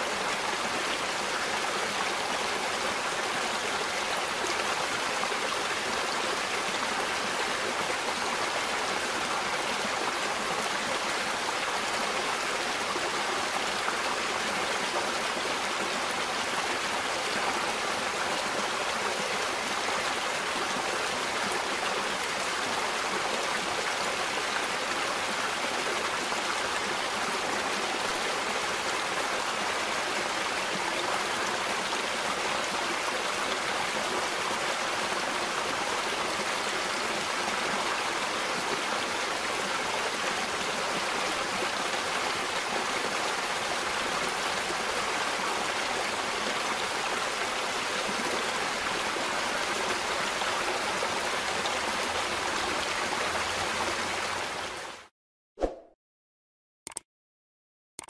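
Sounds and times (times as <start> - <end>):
river water rushing and splashing: 0.0 - 55.1.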